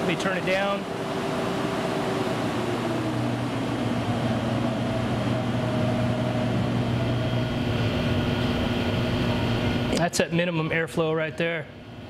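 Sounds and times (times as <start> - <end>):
low motor hum: 0.0 - 10.9
ventilator fan air rushing: 0.0 - 12.0.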